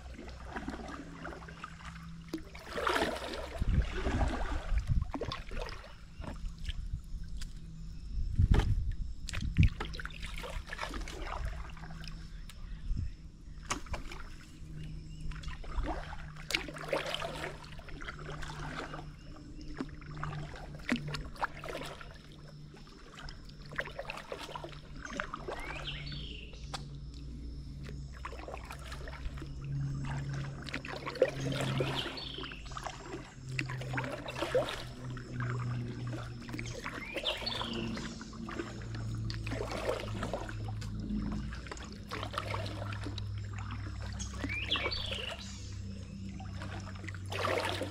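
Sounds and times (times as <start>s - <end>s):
paddle splashing in water: 0.0s - 7.7s, 8.3s - 12.8s, 13.4s - 47.9s
steady low hum: 0.0s - 47.9s.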